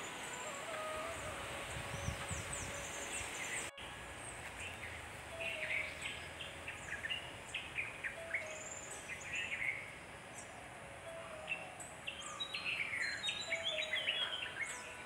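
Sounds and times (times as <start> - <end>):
small birds chirping: 0.0 - 15.0
steady outdoor hiss: 0.0 - 15.0.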